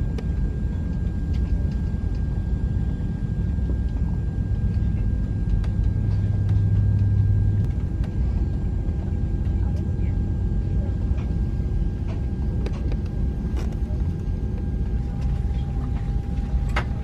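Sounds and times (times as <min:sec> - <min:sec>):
airliner cabin rumble: 0:00.0 - 0:17.0
low hum: 0:00.0 - 0:17.0.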